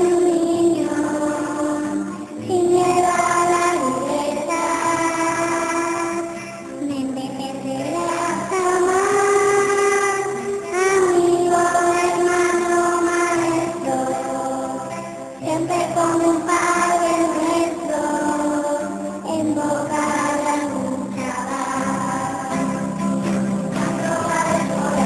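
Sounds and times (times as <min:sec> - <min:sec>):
slow instrumental melody: 0:00.0 - 0:25.0.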